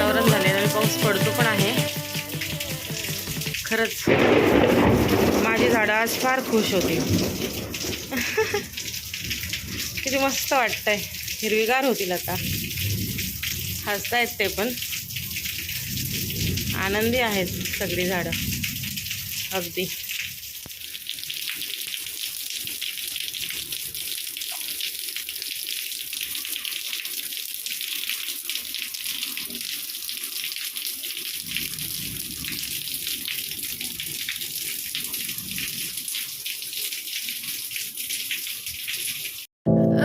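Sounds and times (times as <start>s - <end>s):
steady rain falling: 0.0s - 39.5s.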